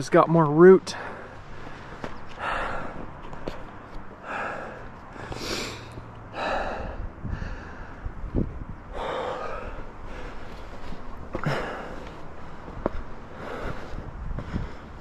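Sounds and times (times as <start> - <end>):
man breathing hard: 0.9 - 15.0.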